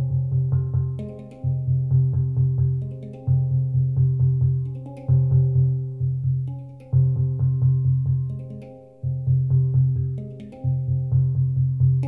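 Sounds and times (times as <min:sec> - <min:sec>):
handpan notes ringing: 0:00.0 - 0:12.0.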